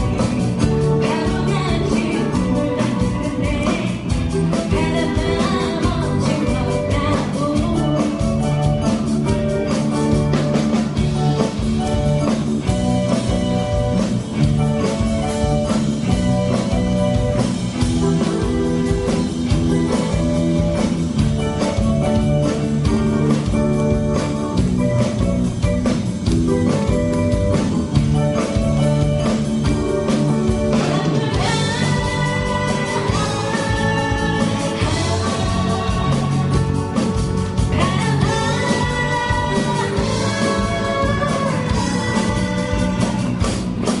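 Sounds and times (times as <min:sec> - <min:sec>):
drum kit beat: 0:00.0 - 0:44.0
electric guitar: 0:00.0 - 0:44.0.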